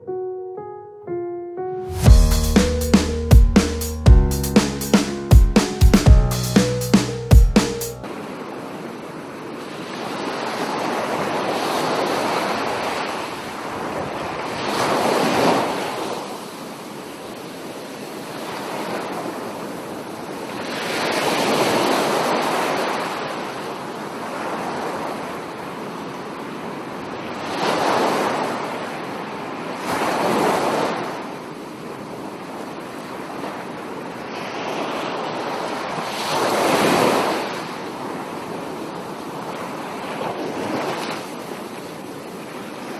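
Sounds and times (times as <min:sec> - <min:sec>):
waves washing on sandy beach: 0:08.0 - 0:42.9.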